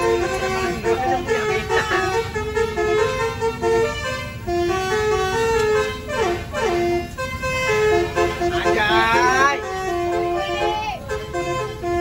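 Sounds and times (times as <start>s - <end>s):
musical multi-tone bus horn: 0.0s - 12.0s
slow traffic: 0.0s - 12.0s.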